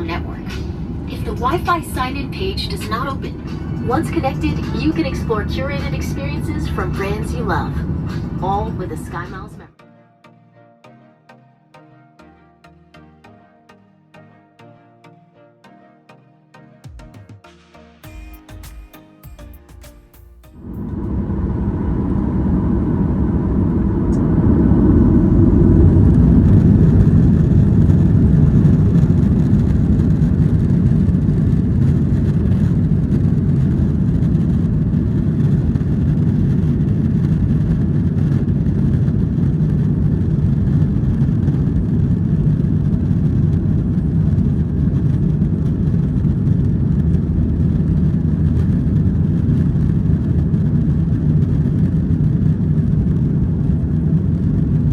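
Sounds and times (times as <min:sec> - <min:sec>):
jet engines at high thrust: 0:00.0 - 0:09.6, 0:20.6 - 0:54.9.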